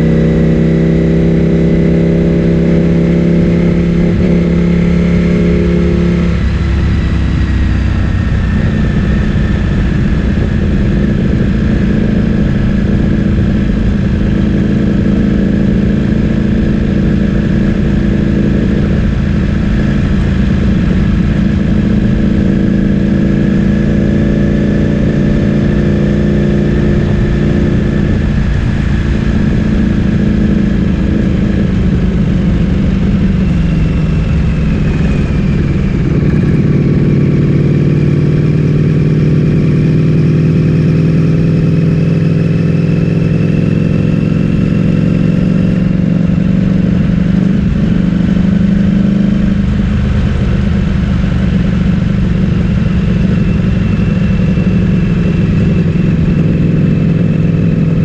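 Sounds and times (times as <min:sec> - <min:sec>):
motorcycle engine running: 0:00.0 - 0:58.0
low rumble: 0:03.4 - 0:58.0.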